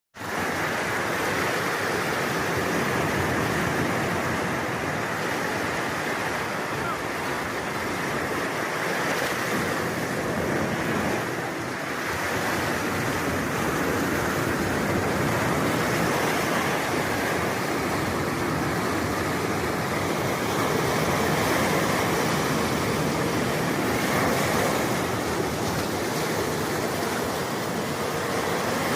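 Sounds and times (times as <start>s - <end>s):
waves breaking and washing: 0.2s - 28.9s.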